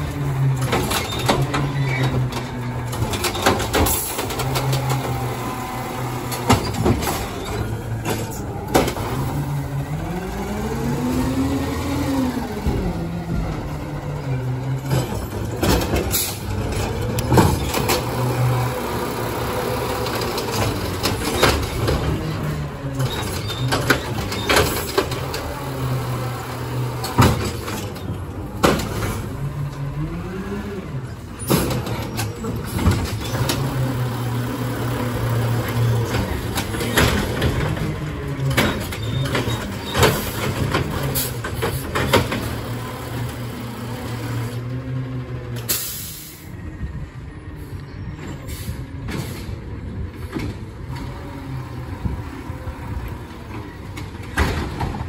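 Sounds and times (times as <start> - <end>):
garbage truck engine revving: 0.0 - 47.6, 48.5 - 55.0
hydraulic arm lifting cart: 0.0 - 55.0.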